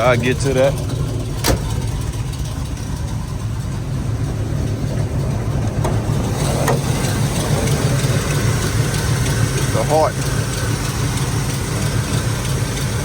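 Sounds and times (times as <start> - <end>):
car engine idling choppily: 0.0 - 13.0.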